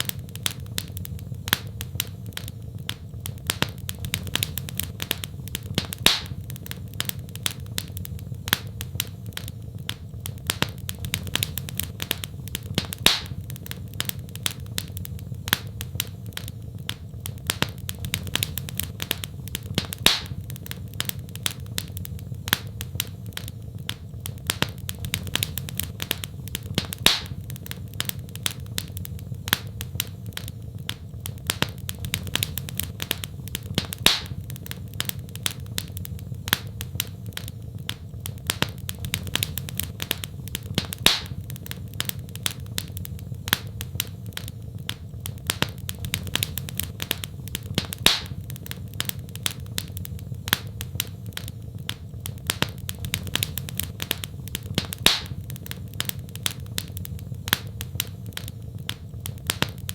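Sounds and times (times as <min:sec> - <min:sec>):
low rumble of fire: 0:00.0 - 0:59.9
wood fire crackling: 0:00.0 - 0:59.9.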